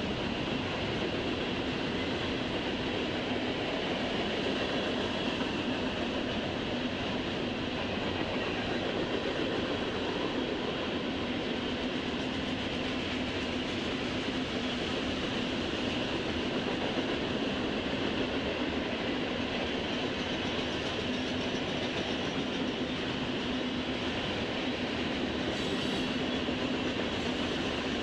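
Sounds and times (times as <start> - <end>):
train wheels rumbling and rattling: 0.0 - 28.0.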